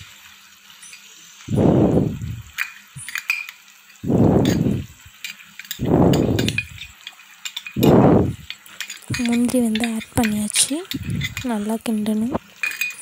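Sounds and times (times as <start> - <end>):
utensils clicking against pan: 0.8 - 1.2, 2.4 - 13.0.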